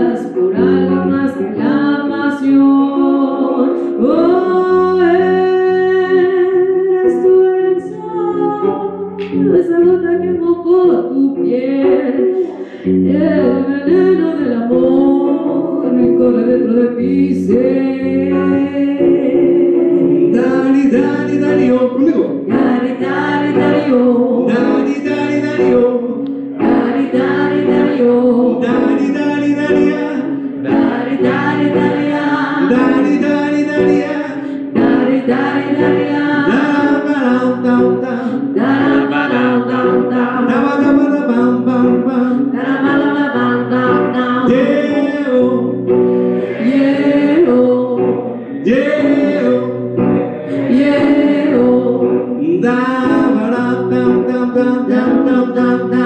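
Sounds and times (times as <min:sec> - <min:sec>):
woman singing into a microphone: 0:00.0 - 0:49.8, 0:50.5 - 0:56.0
guitar accompaniment: 0:00.0 - 0:56.0.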